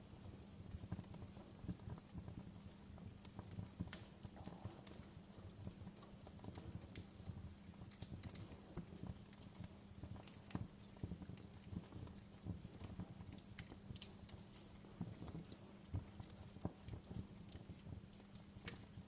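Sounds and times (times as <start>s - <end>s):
wood fire crackling: 0.2s - 19.0s.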